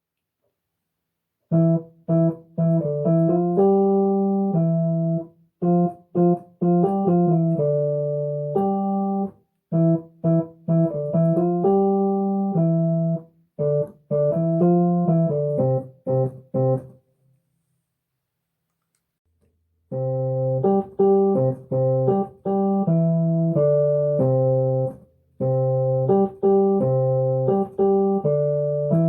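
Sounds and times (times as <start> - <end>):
electronic keyboard melody: 1.5 - 17.0, 19.9 - 29.0.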